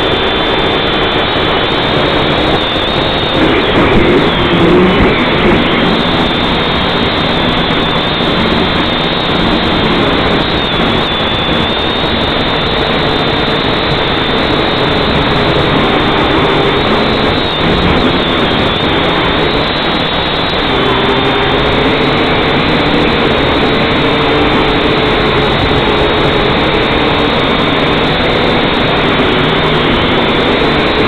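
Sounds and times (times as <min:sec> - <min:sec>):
drone propellers whirring: 0:00.0 - 0:31.0
wind rumbling on microphone: 0:00.0 - 0:31.0.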